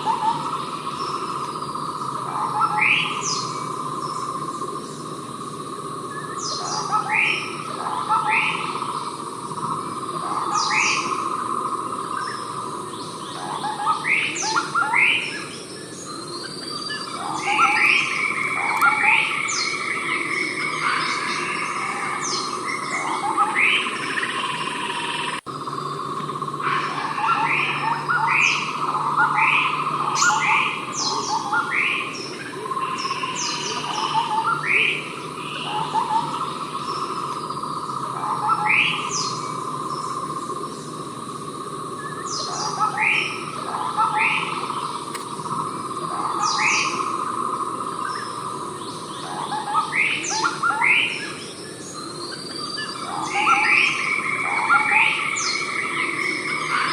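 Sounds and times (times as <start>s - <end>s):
bird whistled calls: 0.0s - 5.1s, 6.1s - 11.4s, 12.0s - 56.9s
insect drone: 0.0s - 56.9s.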